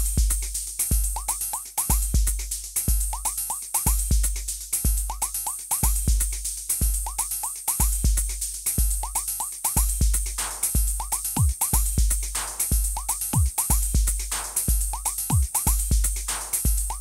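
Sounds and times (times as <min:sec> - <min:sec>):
deep kick drum and bass line: 0:00.0 - 0:17.0
drum machine clap: 0:00.0 - 0:17.0
hi-hat ticks: 0:00.0 - 0:17.0
techno house music: 0:00.0 - 0:17.0.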